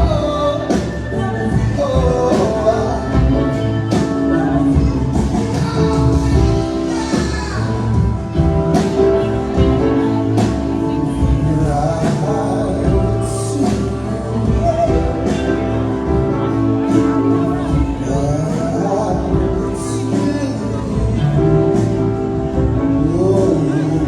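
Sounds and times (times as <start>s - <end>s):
live band playing: 0.0s - 24.0s.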